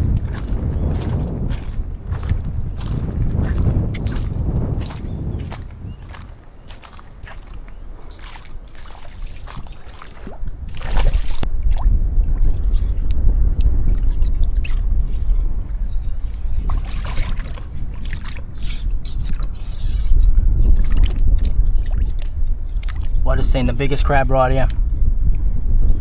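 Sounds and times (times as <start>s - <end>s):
person wading through water: 0.0s - 23.2s
wind buffeting microphone: 0.0s - 26.0s.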